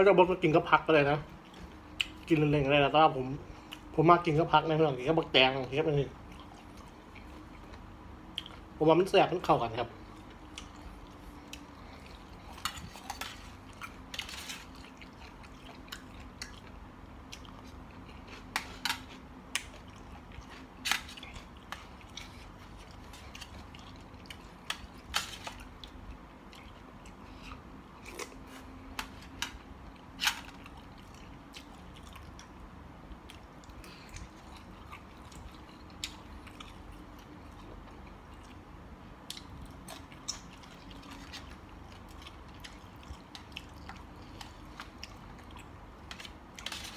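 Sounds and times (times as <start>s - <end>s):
faint steady hum: 0.0s - 46.9s
quiet chewing: 5.6s - 8.7s, 10.0s - 46.9s.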